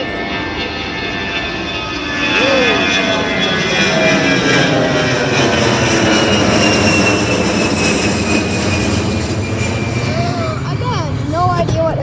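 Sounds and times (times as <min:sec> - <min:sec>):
jet airliner engines climbing: 0:00.0 - 0:12.0.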